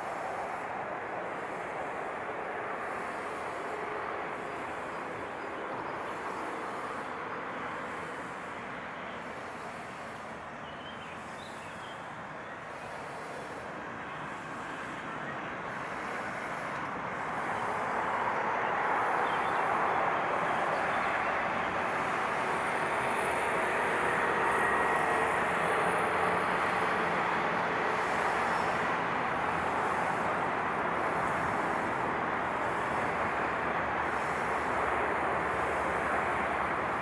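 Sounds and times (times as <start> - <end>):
passing vehicles rushing: 0.0 - 10.6, 11.2 - 37.0.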